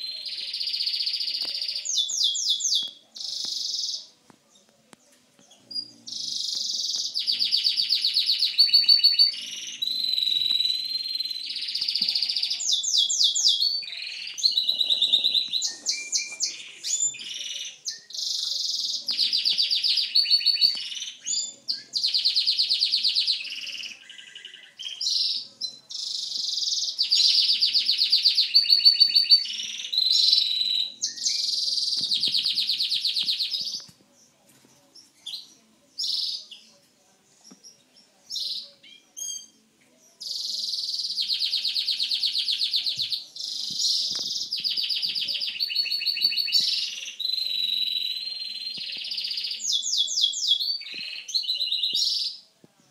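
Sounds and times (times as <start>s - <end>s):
canary singing trills: 0.0s - 4.2s, 5.5s - 33.9s, 34.9s - 52.5s.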